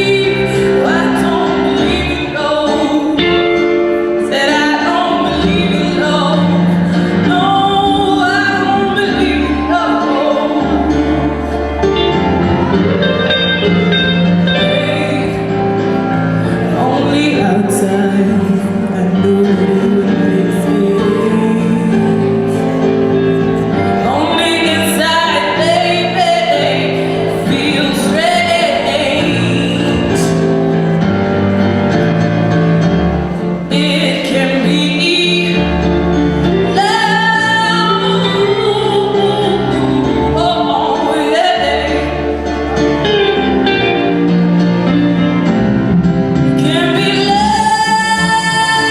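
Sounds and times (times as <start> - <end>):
person singing: 0.0 - 31.4, 33.4 - 45.6
held chords: 0.0 - 48.9.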